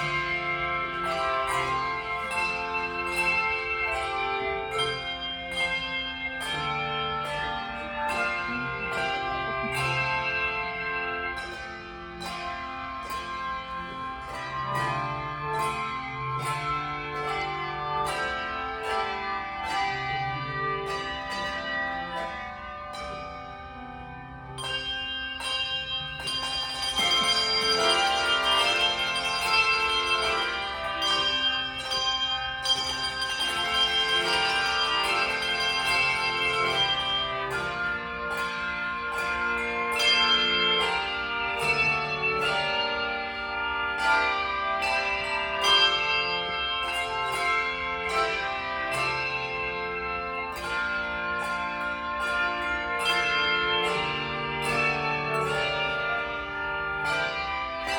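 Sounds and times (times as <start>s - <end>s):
handbell ensemble playing chords: 0.0s - 57.9s.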